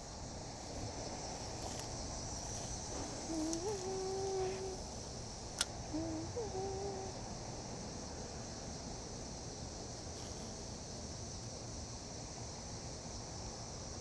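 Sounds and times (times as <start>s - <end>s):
insects trilling: 0.0s - 14.0s
low background hiss: 0.0s - 14.0s.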